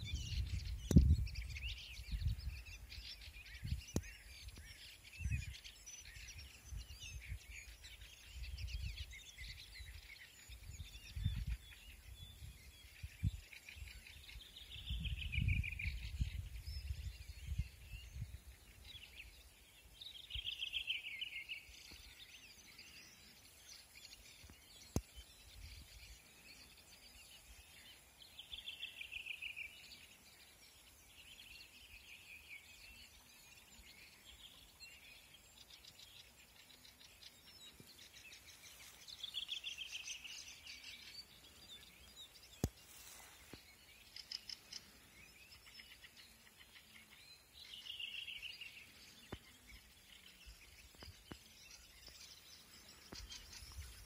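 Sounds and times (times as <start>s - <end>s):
faint bird chirps: 0.0s - 54.0s
songbird singing: 0.0s - 54.0s.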